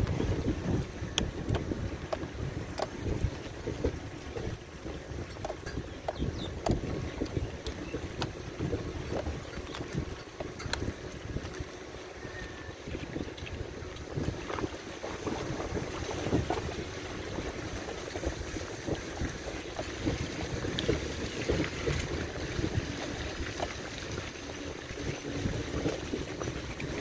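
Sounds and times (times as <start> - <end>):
wind gusting over microphone: 0.0 - 27.0.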